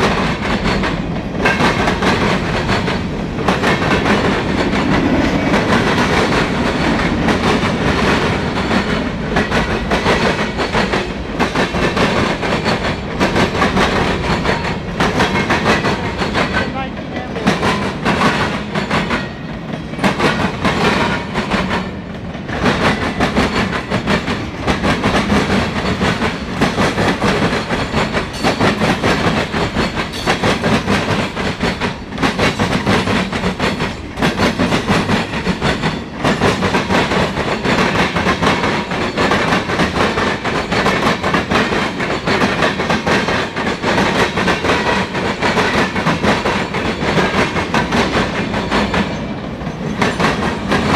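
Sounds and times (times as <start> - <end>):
freight train rolling past: 0.0 - 50.9
wheels clicking over rail joints: 0.0 - 50.9.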